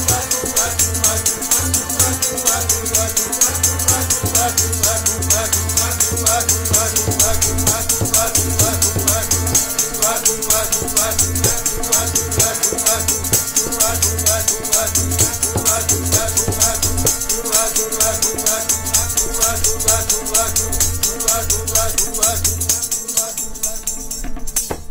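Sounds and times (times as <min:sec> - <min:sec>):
harmonium held notes: 0:00.0 - 0:24.3
jingling hand percussion: 0:00.0 - 0:24.9
tabla: 0:00.0 - 0:24.9.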